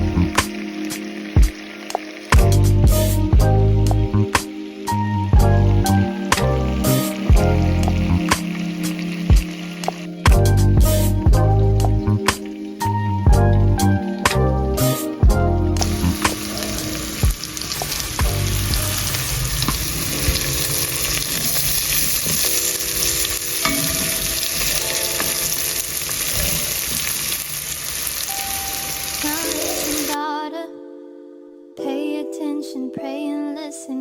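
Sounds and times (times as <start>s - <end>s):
food sizzling in a frying pan: 0.0s - 30.2s.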